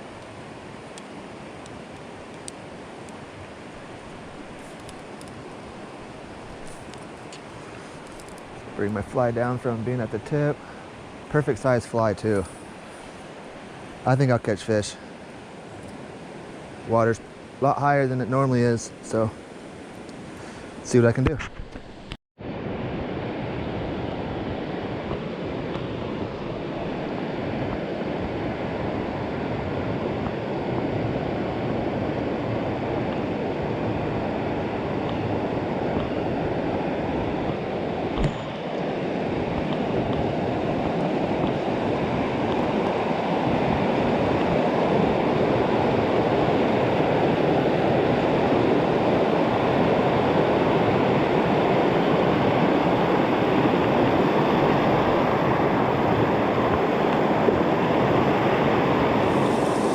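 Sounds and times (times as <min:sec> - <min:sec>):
creek water rushing: 0:00.0 - 0:21.1, 0:22.4 - 0:59.9.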